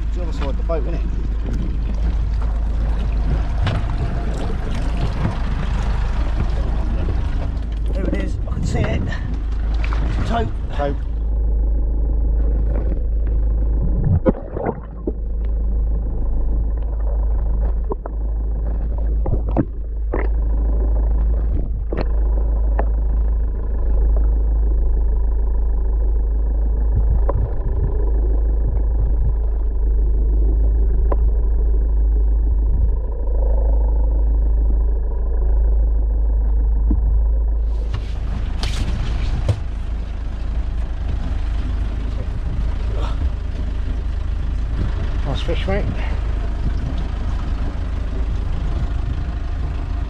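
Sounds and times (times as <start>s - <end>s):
muffled underwater rumble: 0.0s - 50.0s.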